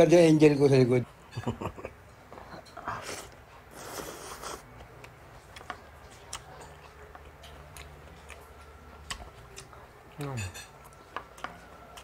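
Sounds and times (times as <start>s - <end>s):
quiet chewing: 2.2s - 12.0s.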